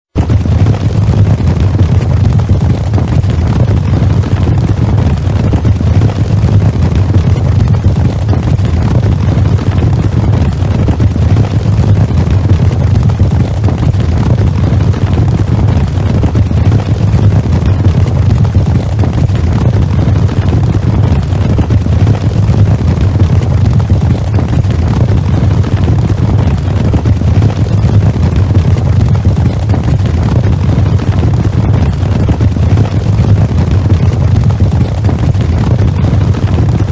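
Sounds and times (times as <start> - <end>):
massed galloping hooves: 0.1 - 36.9.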